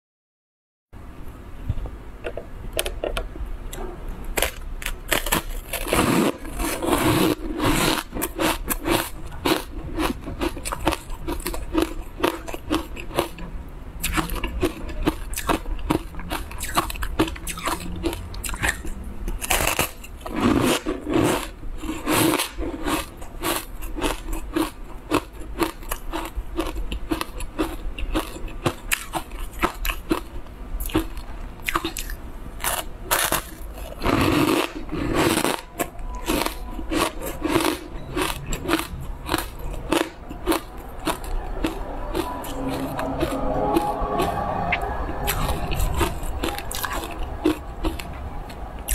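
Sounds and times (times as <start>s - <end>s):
food crunching and crackling: 3.7s - 48.9s.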